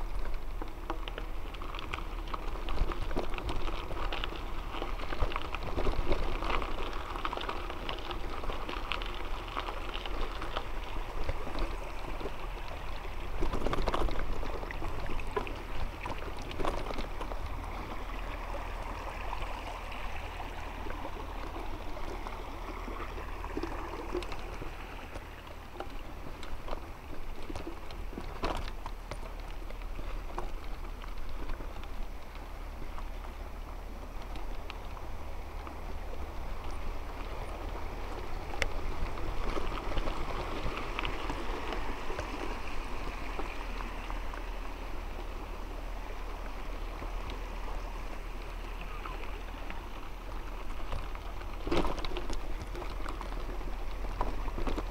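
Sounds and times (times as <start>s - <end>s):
bike rattling over bumps: 0.0s - 54.9s
tyres rolling on gravel: 0.0s - 54.9s.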